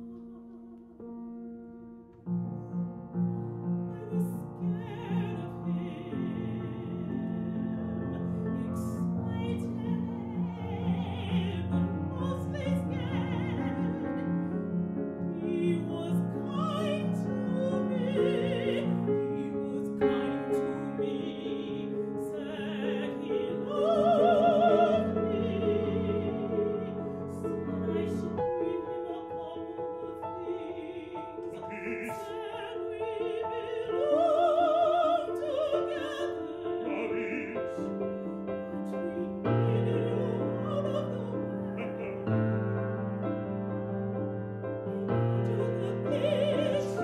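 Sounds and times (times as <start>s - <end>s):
woman singing opera: 0.0s - 1.2s, 3.1s - 43.4s, 44.7s - 47.0s
piano: 0.0s - 47.0s.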